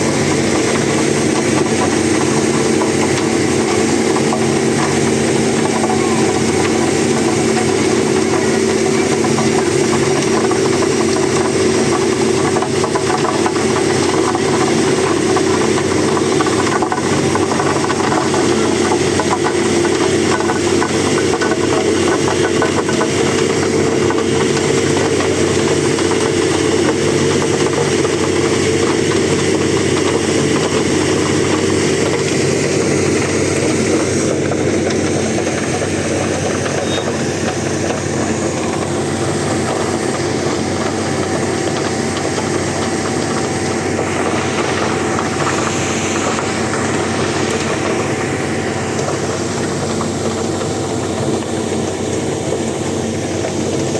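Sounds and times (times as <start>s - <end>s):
diesel engine running loudly: 0.0s - 53.9s.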